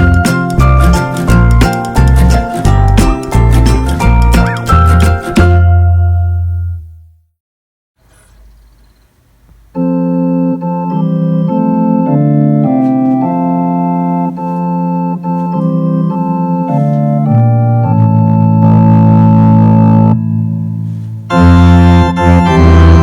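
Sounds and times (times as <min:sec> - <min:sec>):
organ playing held chords: 0:00.0 - 0:06.9, 0:09.7 - 0:23.0.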